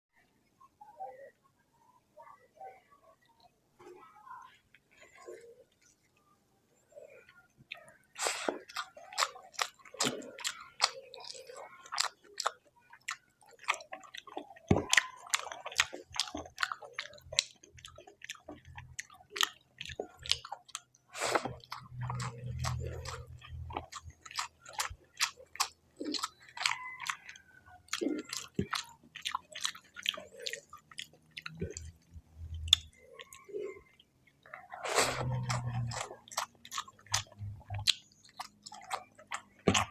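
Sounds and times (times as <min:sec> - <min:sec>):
chewing and biting food: 0:07.3 - 0:39.9.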